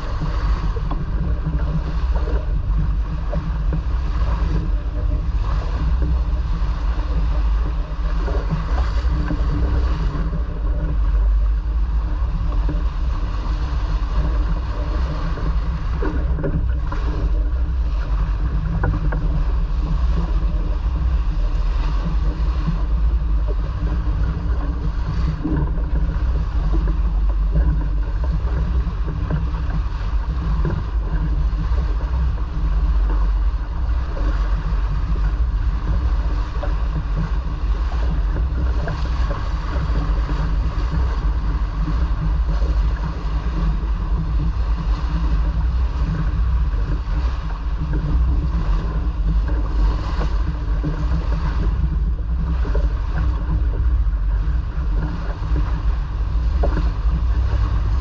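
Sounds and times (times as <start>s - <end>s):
water washing along hull: 0.0s - 58.0s
wind buffeting microphone: 0.0s - 58.0s.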